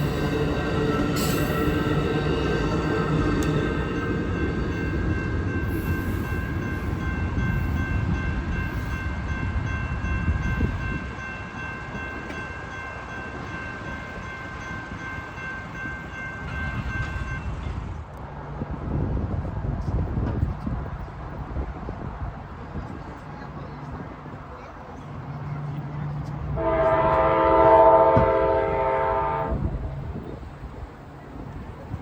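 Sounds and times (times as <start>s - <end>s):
train rumbling past: 0.0s - 32.0s.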